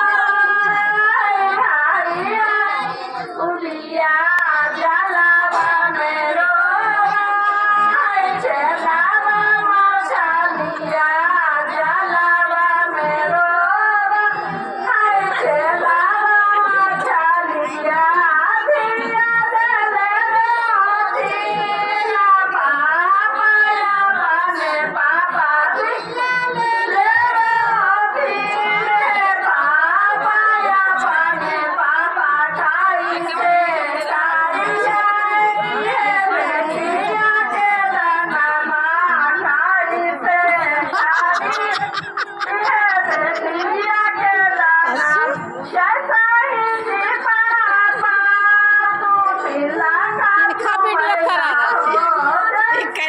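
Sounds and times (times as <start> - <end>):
women singing folk song: 0.0 - 53.0.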